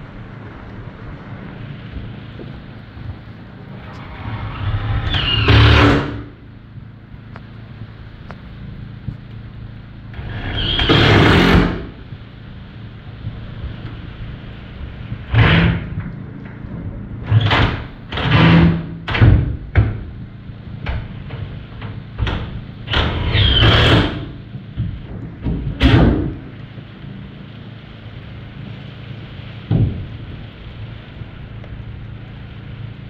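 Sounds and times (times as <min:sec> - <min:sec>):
rain hissing: 0:00.0 - 0:33.0
wind gusts buffeting walls: 0:00.0 - 0:33.0.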